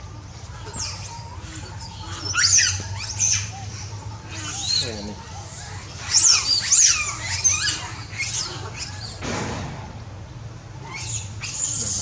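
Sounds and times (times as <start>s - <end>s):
monkeys squealing and chirping: 0.4s - 9.2s, 10.8s - 12.0s.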